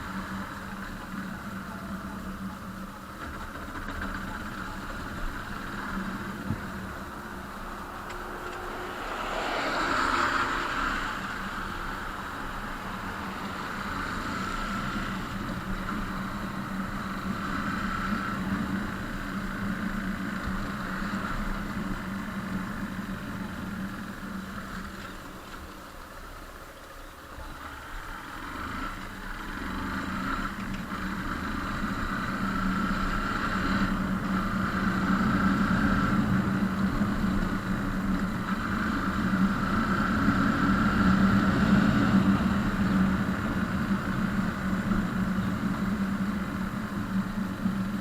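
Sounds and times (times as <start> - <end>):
vehicle engine running: 0.0 - 48.0.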